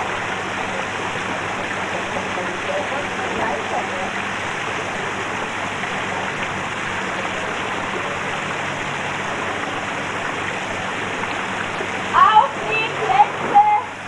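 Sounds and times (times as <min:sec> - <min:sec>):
water splashing over ledge: 0:00.0 - 0:14.0.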